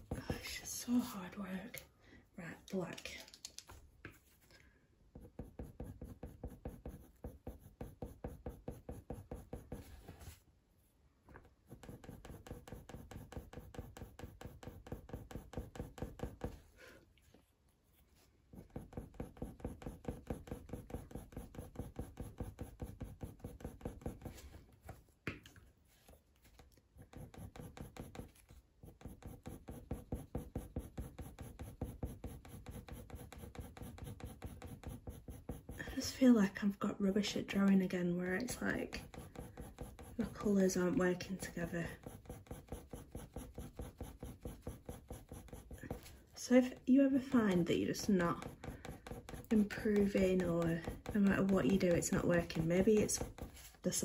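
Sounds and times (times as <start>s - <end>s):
pencil scratching on paper: 5.1s - 10.4s, 11.4s - 17.0s, 17.9s - 25.0s, 26.0s - 54.0s.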